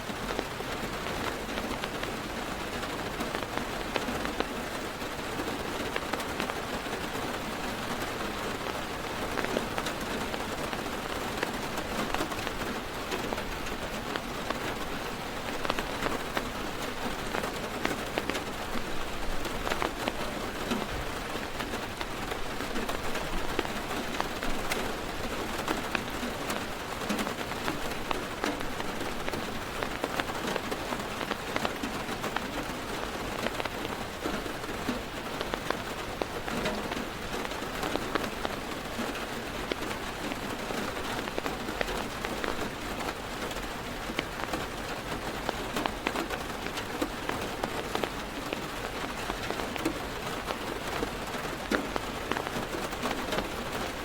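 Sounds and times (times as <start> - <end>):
heavy rain on car roof: 0.0 - 54.0
sharp raindrop ticks: 0.0 - 54.0.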